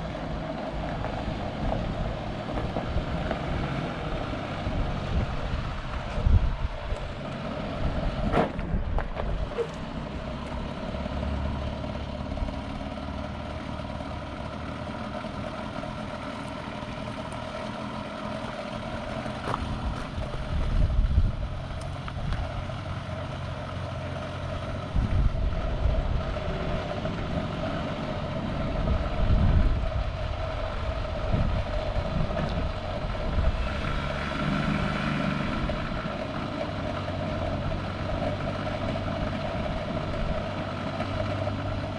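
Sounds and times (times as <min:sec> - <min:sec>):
motor vehicle engine drone: 0:00.0 - 0:41.9.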